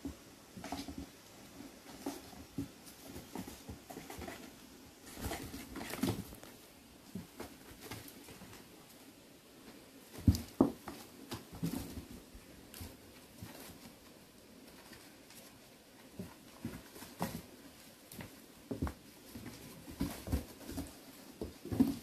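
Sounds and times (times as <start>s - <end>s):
rustling on cardboard boxes: 0.0s - 22.0s.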